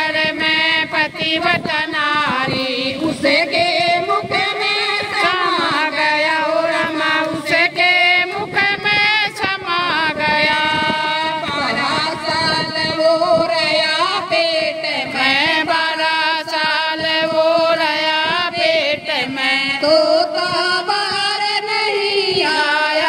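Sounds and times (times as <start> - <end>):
woman singing into microphone: 0.0 - 23.0
women singing together: 0.0 - 23.0.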